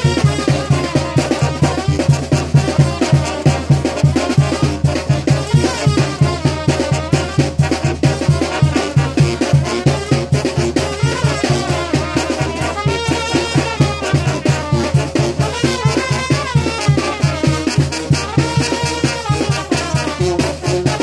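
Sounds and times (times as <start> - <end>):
brass band dance music: 0.0 - 21.0.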